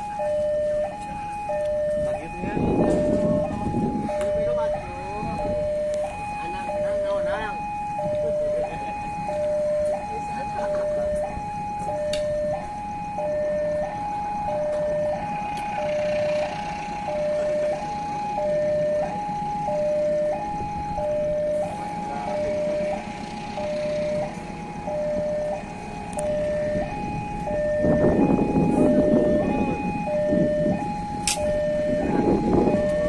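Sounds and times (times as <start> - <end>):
two-tone crossing alarm: 0.0 - 33.0.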